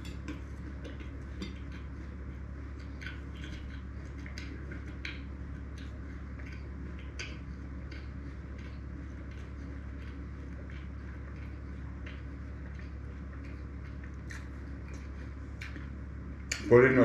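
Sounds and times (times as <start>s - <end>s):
low steady hum: 0.0s - 17.0s
sticky chewing: 0.0s - 17.0s.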